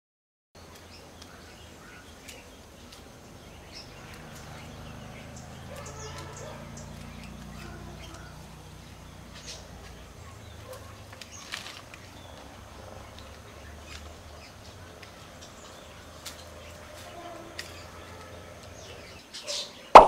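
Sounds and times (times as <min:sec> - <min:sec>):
faint outdoor background: 0:00.6 - 0:20.0.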